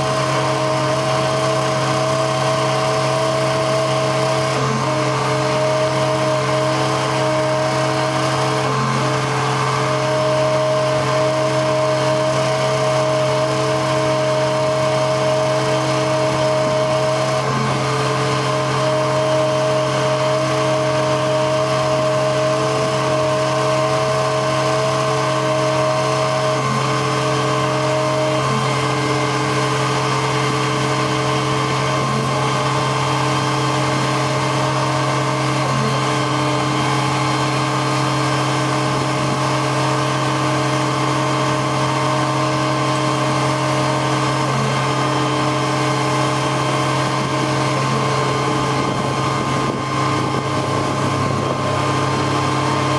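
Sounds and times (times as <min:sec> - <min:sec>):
hydraulics whining with changing pitch: 0:00.0 - 0:52.9
truck engine running: 0:00.0 - 0:52.9.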